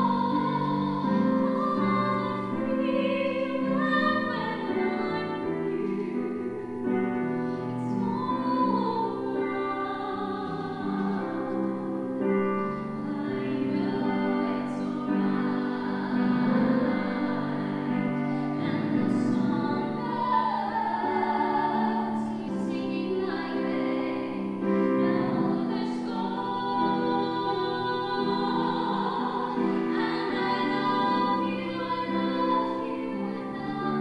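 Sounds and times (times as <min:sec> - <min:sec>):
women singing into microphone: 0:00.0 - 0:34.0.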